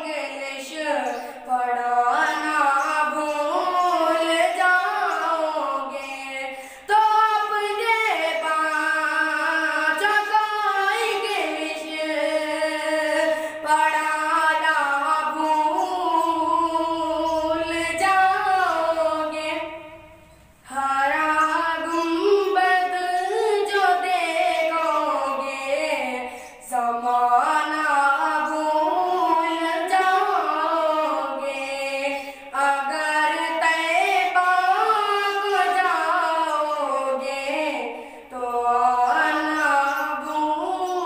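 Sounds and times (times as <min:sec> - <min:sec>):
boy singing unaccompanied: 0:00.0 - 0:41.0.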